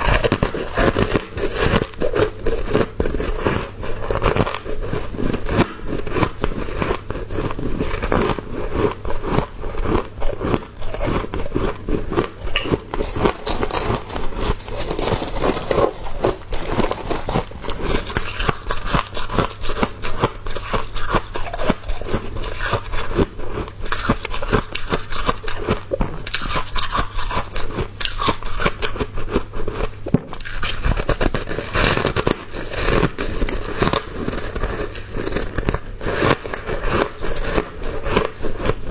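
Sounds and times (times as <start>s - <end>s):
chewing crunchy ice: 0.0s - 38.9s.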